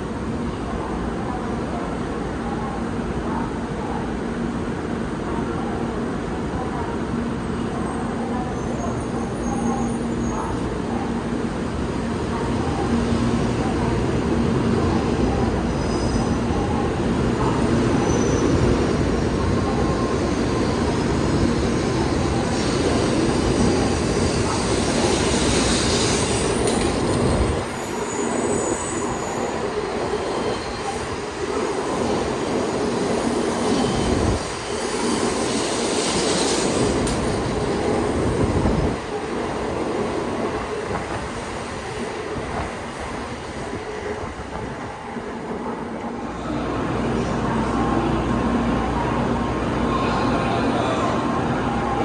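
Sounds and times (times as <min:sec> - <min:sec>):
train wheels rumbling on track: 0:08.5 - 0:51.8.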